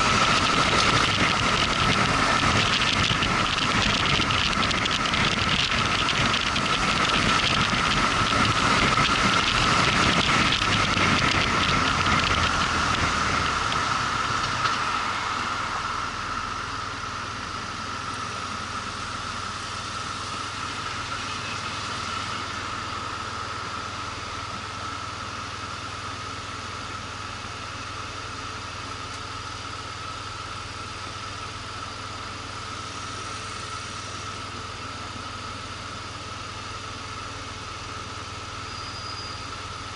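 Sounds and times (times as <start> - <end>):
motorcycle riding: 0.0 - 39.9
wind and road noise: 0.0 - 39.9.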